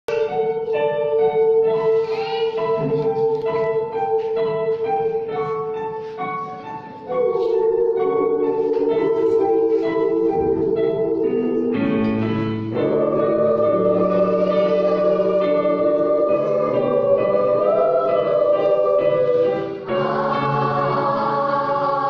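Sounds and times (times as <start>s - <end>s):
children's choir singing chords: 0.1s - 22.0s.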